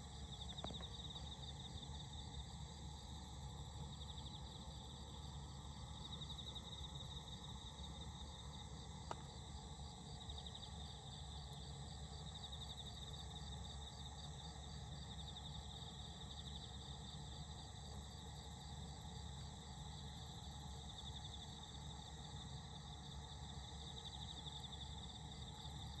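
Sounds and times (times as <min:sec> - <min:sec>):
crickets chirping: 0:00.0 - 0:26.0
low steady background hum: 0:00.0 - 0:26.0.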